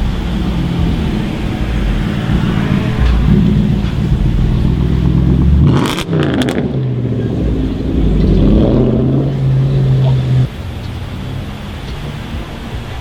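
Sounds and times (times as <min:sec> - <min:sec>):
sharp exhaust cracks: 0:00.0 - 0:13.0
sports car engine accelerating: 0:00.0 - 0:13.0.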